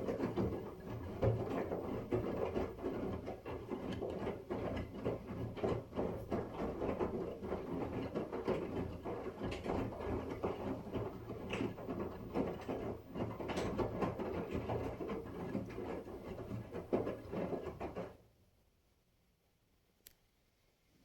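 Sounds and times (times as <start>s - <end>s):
small knocks and swishes: 0.0s - 18.2s.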